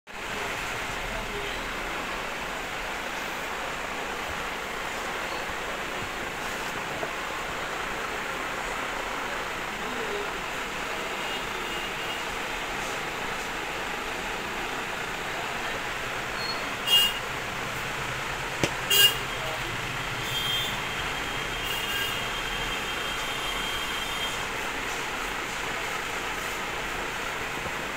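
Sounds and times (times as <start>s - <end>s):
road traffic: 0.1s - 27.9s.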